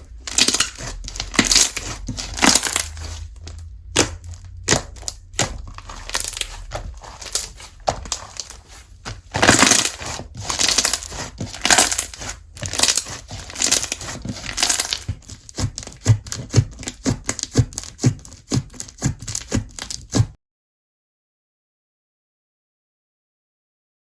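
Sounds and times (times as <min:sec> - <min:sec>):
slime squeezed crackling: 0:00.0 - 0:20.2.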